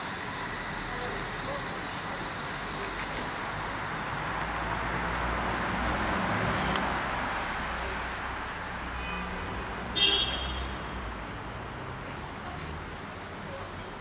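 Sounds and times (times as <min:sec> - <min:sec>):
passing road traffic: 0:00.0 - 0:14.0.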